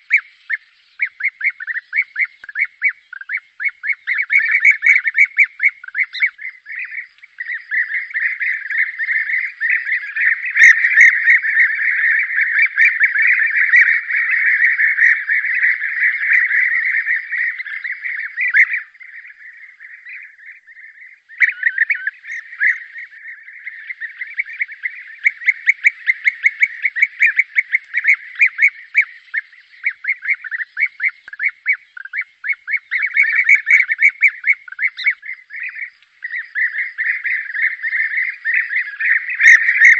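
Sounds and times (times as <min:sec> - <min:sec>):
bee-eaters trilled calls: 0:00.0 - 0:39.9.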